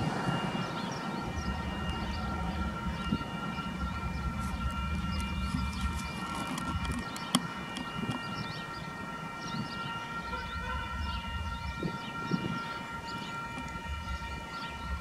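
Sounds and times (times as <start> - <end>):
birds chirping: 0.0 - 15.0
diesel locomotive rumbling and whining: 0.0 - 15.0.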